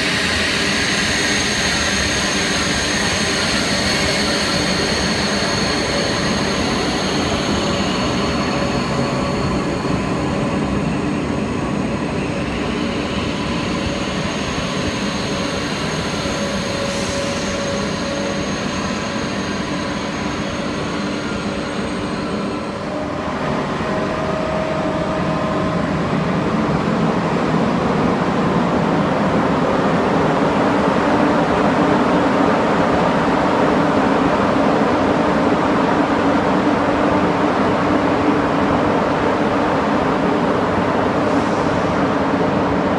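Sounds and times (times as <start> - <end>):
high-speed train rumbling and whining: 0.0 - 42.9.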